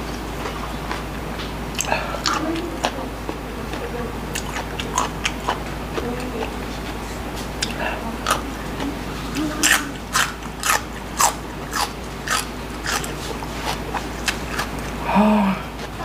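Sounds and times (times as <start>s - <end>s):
celery crunching: 0.0s - 15.0s
closed-mouth hum: 0.0s - 16.0s.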